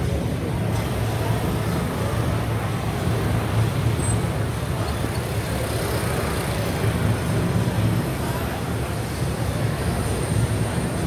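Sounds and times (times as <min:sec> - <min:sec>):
motor scooters and cars passing: 0:00.0 - 0:11.0.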